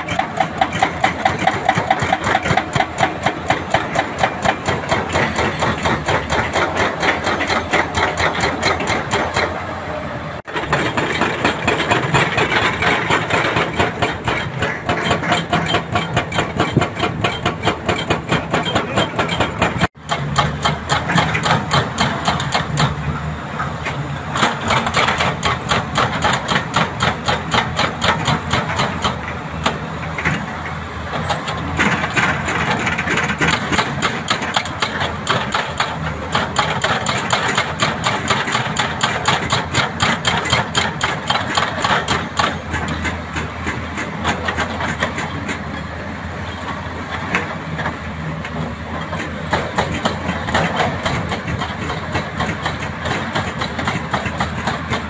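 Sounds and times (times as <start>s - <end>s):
hydraulic rock breaker hammering: 0.0s - 9.6s, 10.5s - 45.7s, 46.6s - 55.0s
diesel engine drone: 0.0s - 55.0s.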